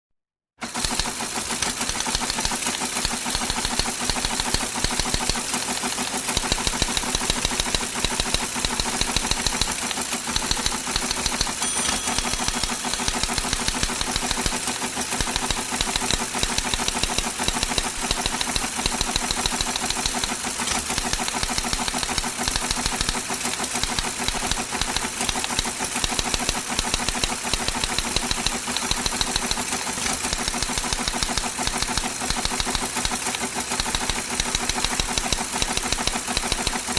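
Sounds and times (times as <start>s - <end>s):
teletype machine clatter: 0.6s - 36.9s.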